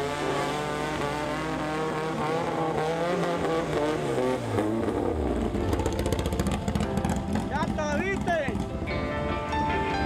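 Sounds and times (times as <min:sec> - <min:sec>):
buggy engine revving: 0:00.0 - 0:10.0.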